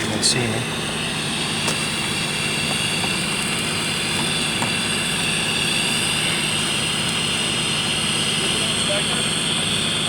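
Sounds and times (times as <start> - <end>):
machine running with low hum: 0.0 - 10.0.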